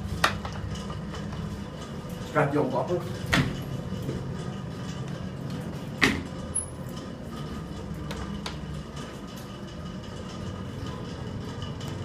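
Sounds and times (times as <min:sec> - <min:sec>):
elevator hum: 0:00.0 - 0:12.0.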